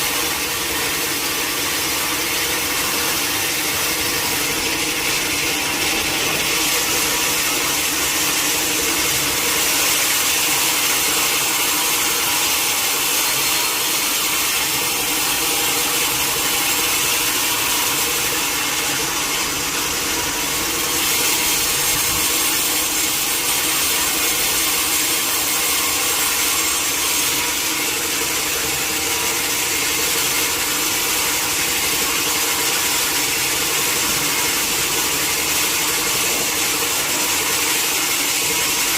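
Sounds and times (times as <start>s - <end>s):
saw cutting through log: 0.0s - 38.9s.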